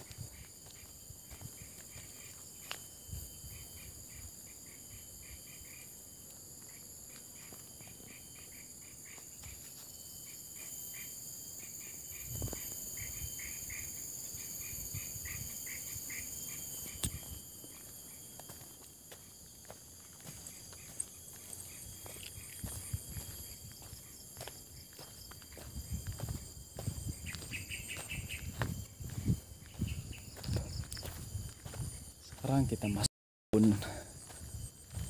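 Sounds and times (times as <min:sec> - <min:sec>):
footsteps on dry path: 0:00.0 - 0:10.4, 0:12.1 - 0:35.0
high-pitched insect drone: 0:00.0 - 0:35.0.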